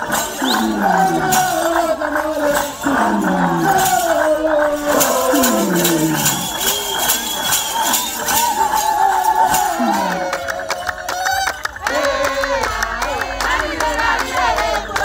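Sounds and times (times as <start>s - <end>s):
sharp percussive beats: 0.0s - 14.1s
group of voices chanting: 0.0s - 15.0s.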